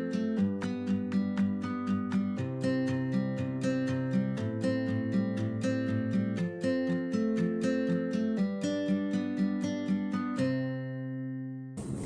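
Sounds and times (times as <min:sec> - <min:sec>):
picked acoustic guitar: 0:00.0 - 0:11.8.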